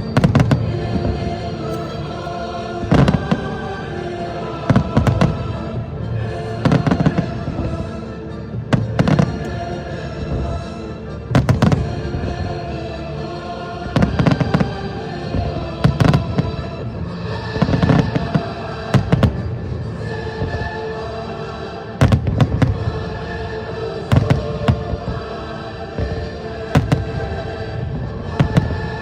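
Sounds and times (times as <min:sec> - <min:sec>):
music with long held tones: 0:00.0 - 0:29.0.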